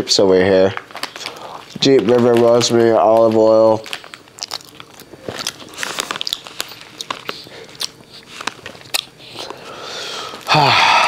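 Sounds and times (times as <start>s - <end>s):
person chewing crunchy chips: 0.8s - 11.0s.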